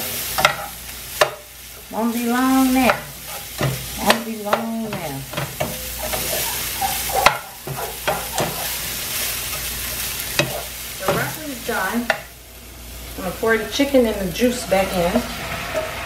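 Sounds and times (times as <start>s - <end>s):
utensil stirring in pan: 0.0s - 16.0s
vegetables sizzling in frying pan: 0.0s - 16.0s.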